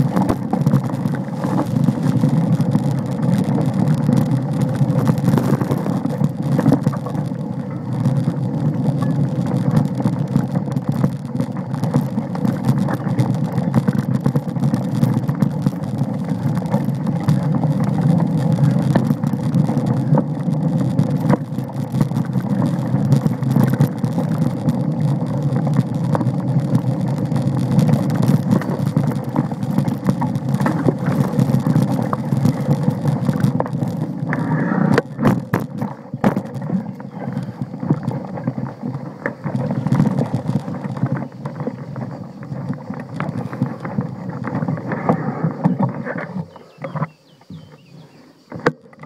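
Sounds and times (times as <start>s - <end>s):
bike rattling and knocking: 0.0s - 49.0s
bike tyres rumbling on dirt: 0.0s - 49.0s.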